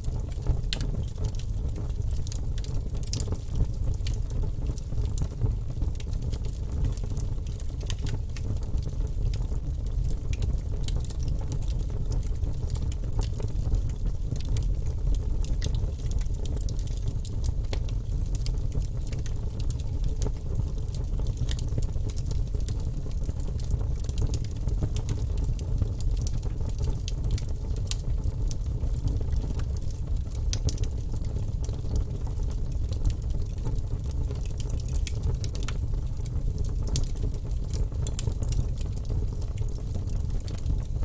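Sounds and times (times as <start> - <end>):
fire crackling and popping: 0.1 - 41.0
wood fire rumbling: 0.1 - 41.0.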